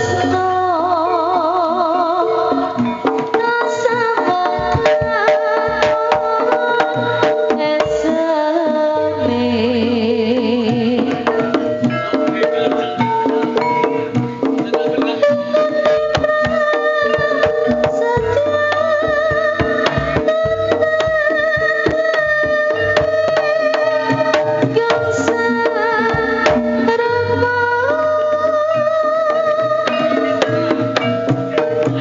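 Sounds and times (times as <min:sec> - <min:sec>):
hand drums: 0:00.0 - 0:32.0
wavering melody: 0:00.0 - 0:32.0.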